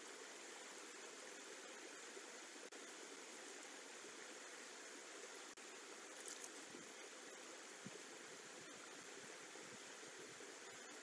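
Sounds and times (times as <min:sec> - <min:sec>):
faint hiss of rain: 0:00.0 - 0:11.0.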